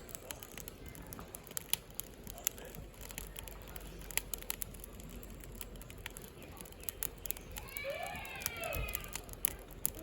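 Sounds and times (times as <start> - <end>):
firewood crackling and popping: 0.0 - 10.0
low steady fire hiss: 0.0 - 10.0.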